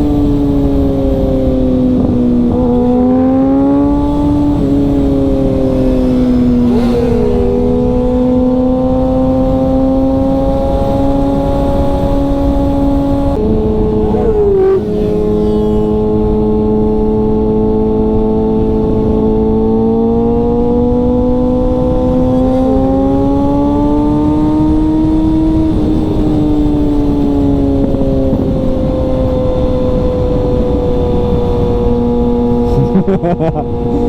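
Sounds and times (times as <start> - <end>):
motorcycle engine at high revs: 0.0 - 34.0
wind and road noise: 0.0 - 34.0.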